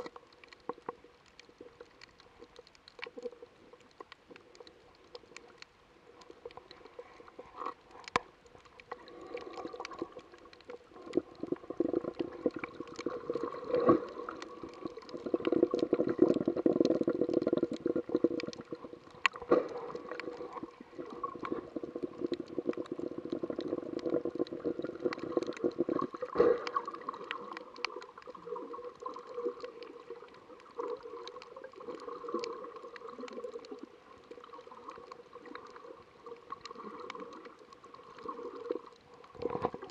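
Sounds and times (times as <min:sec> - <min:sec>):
sharp underwater clicks: 0:00.0 - 0:06.9, 0:07.6 - 0:35.8
muffled underwater gurgling and sloshing: 0:00.0 - 0:39.9.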